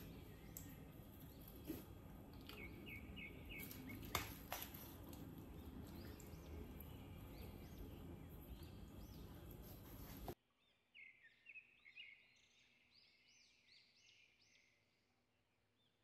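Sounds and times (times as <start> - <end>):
faint bird chirps: 0.0 - 4.9, 5.5 - 16.0.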